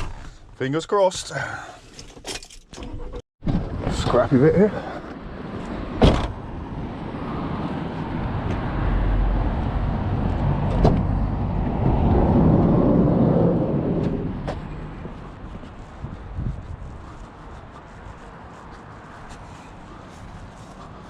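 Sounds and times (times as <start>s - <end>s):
motor vehicle noise: 2.8s - 21.0s.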